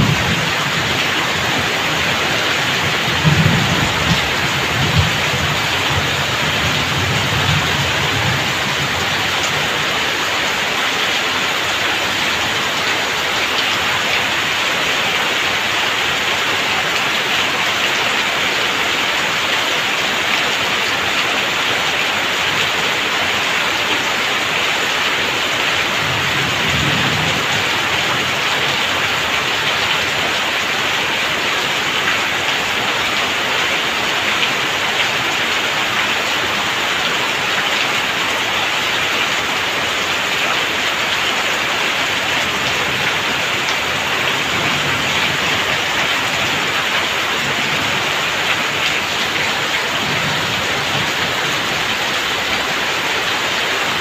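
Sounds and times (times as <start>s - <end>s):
heavy rain hiss: 0.0s - 54.0s
water pouring off roof: 0.0s - 54.0s.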